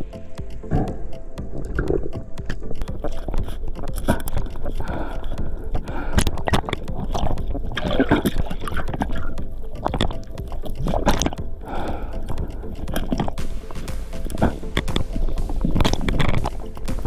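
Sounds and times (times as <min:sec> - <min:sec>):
underwater gurgling rumble: 0:00.0 - 0:16.6
sharp clicks and knocks: 0:00.0 - 0:17.0.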